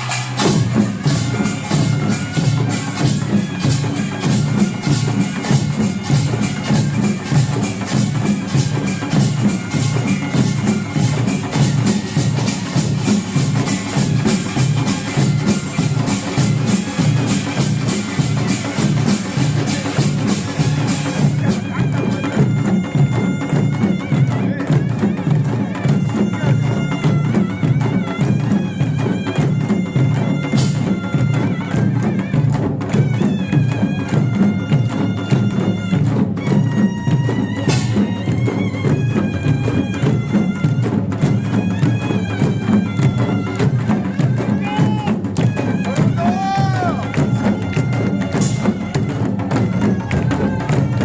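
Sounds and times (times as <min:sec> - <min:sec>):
fast drum beat: 0:00.0 - 0:51.0
shawm reedy melody: 0:00.0 - 0:51.0.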